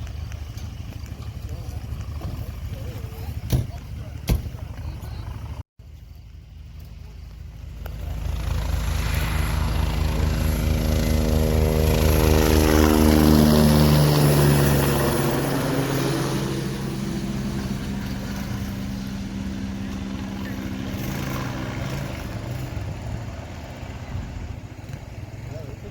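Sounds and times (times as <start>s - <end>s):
helicopter rotor and turbine: 0.0s - 25.9s.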